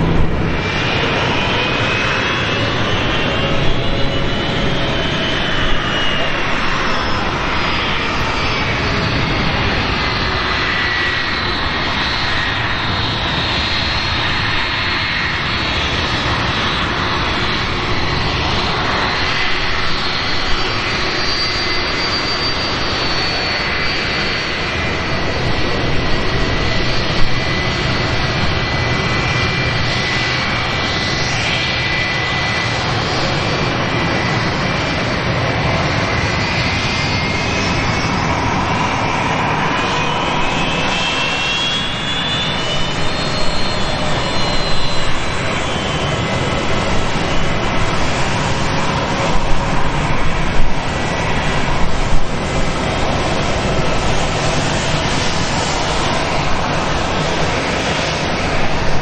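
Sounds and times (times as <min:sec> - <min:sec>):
jet engines rumbling with turbine whine: 0:00.0 - 0:59.0.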